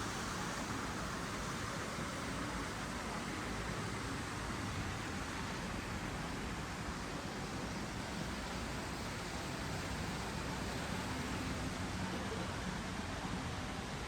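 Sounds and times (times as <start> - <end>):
city ambience hiss and rumble: 0.0 - 14.0.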